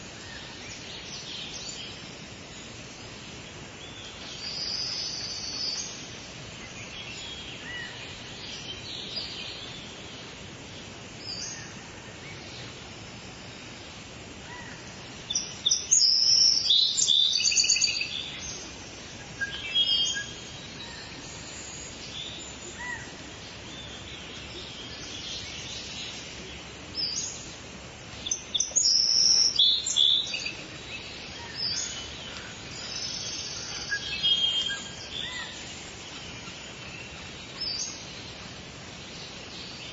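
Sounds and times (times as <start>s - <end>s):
birds singing and chirping: 0.0s - 39.9s
steady background hiss: 0.0s - 39.9s.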